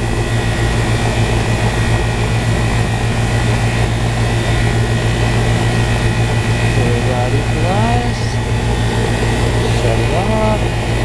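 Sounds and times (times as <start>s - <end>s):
air conditioner drone: 0.0s - 11.0s
high whine: 0.0s - 11.0s.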